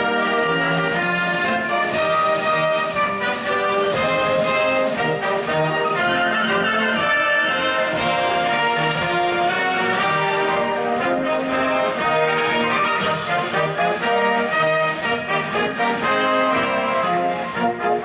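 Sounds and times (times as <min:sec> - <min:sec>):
live brass band music: 0:00.0 - 0:18.0.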